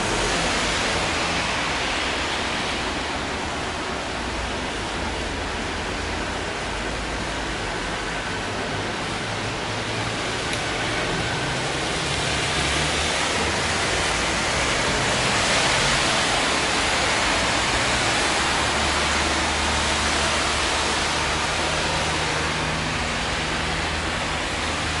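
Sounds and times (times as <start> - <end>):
tyres hissing on wet asphalt: 0.0 - 25.0.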